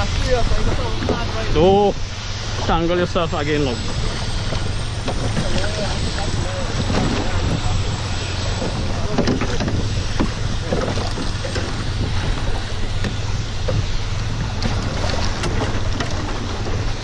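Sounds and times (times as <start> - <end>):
boat engine humming: 0.0 - 17.0
sea noise: 0.0 - 17.0
wind on microphone: 0.0 - 17.0.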